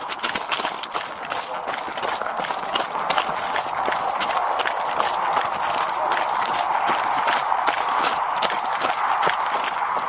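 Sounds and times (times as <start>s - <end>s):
footsteps crunching on rough ground: 0.0s - 10.0s
gear rattling: 0.0s - 10.0s
steady rushing noise: 0.0s - 10.0s.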